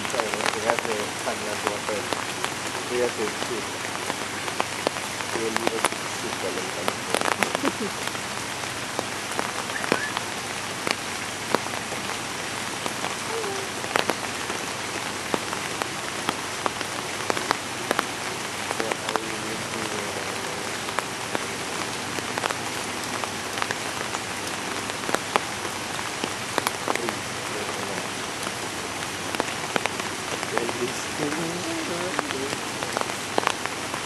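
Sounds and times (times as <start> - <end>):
raindrop impacts: 0.0 - 34.0
steady rain hiss: 0.0 - 34.0.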